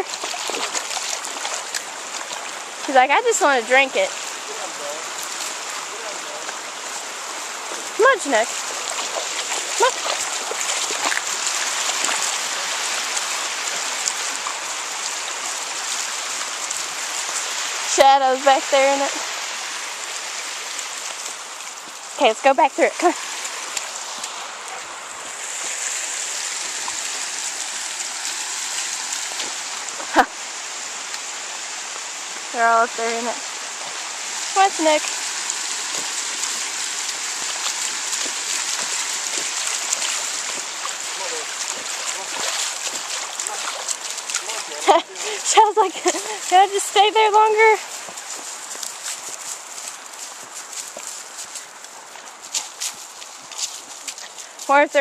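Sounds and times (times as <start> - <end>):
shallow water flowing: 0.0 - 55.0.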